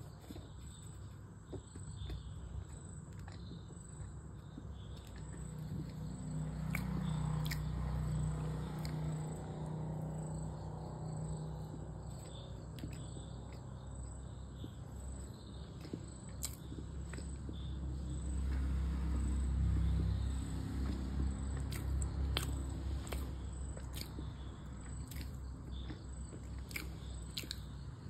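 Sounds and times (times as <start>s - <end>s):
mushy chewing: 0.0s - 28.0s.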